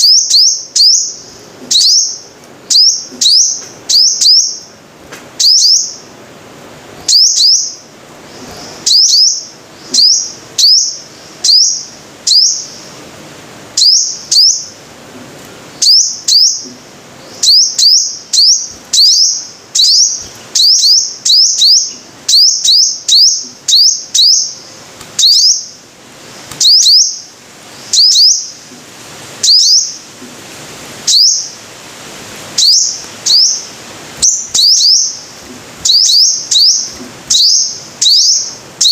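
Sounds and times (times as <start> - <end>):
high-pitched bird chirps: 0.0 - 4.7, 5.4 - 6.1, 7.1 - 12.9, 13.8 - 14.8, 15.8 - 25.8, 26.6 - 28.6, 29.4 - 30.0, 31.1 - 31.6, 32.6 - 38.9.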